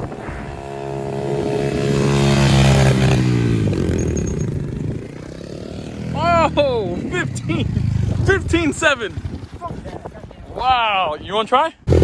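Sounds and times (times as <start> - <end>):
motorbike engine revving: 0.0 - 9.7.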